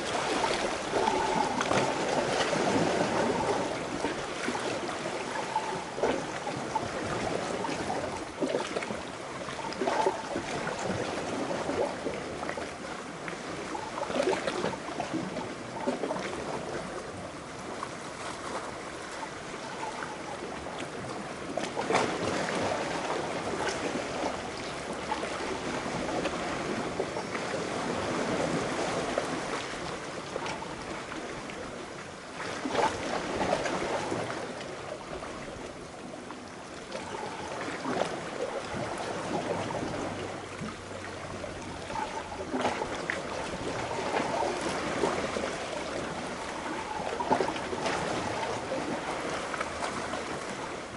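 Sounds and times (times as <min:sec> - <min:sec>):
sea waves lapping against rocks: 0:00.0 - 0:50.9.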